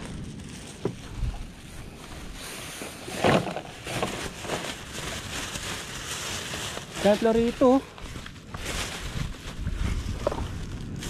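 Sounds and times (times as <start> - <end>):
plastic garbage bag rustling: 0.0 - 11.0.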